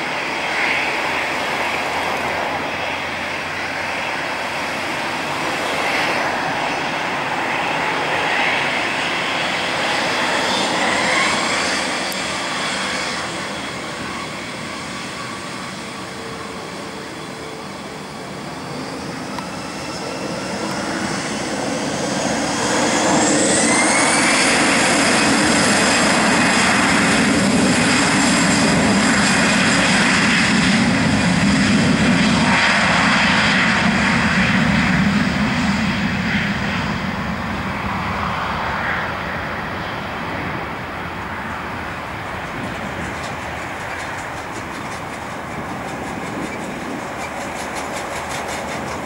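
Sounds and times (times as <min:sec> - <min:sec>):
jet engines at takeoff: 0:00.0 - 0:49.0.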